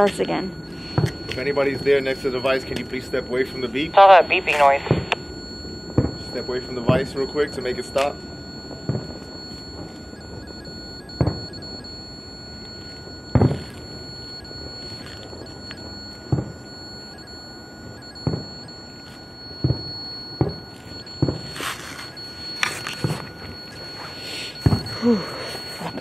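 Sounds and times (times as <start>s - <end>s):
faint high-pitched tone: 0.0s - 26.0s.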